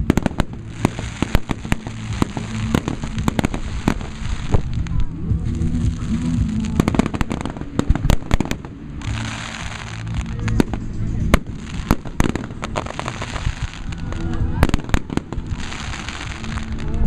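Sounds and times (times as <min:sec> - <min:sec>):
background music: 0:00.0 - 0:17.0
fireworks bangs and crackles: 0:00.0 - 0:17.0.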